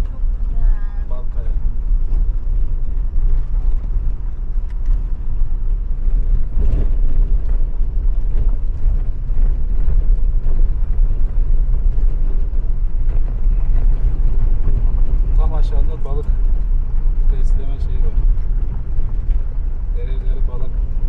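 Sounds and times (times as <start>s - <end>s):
car engine and tyres rumbling: 0.0s - 21.0s
car knocking on rough road: 0.0s - 21.0s.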